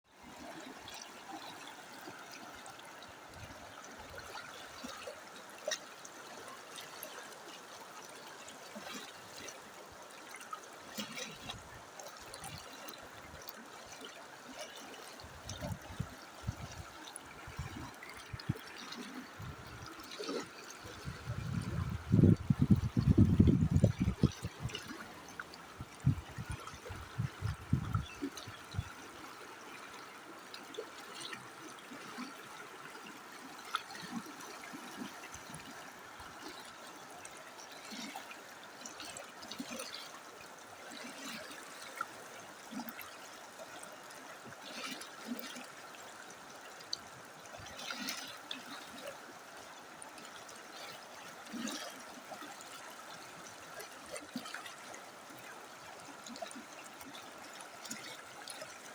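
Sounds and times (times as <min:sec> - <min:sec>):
running water flowing: 0:00.1 - 0:58.9
water splashes and drips: 0:00.1 - 0:58.9.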